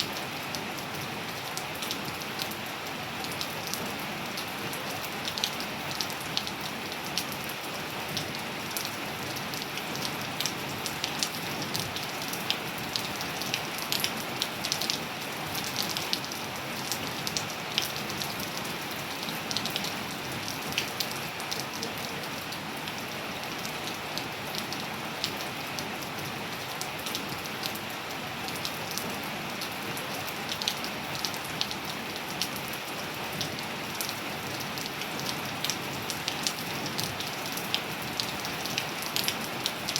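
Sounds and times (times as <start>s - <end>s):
raindrops ticking and splatting: 0.0s - 39.9s
steady rain hiss: 0.0s - 39.9s.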